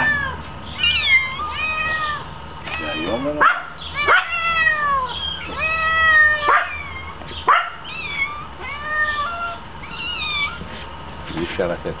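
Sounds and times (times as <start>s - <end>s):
cats meowing: 0.0s - 10.9s.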